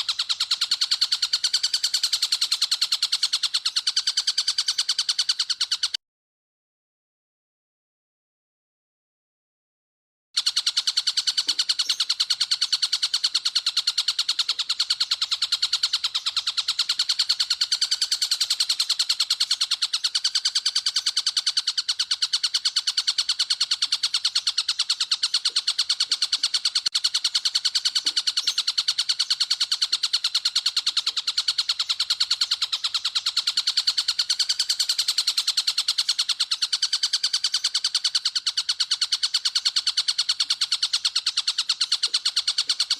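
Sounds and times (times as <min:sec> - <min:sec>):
fast high-pitched bird trill: 0:00.0 - 0:06.0, 0:10.4 - 0:42.9.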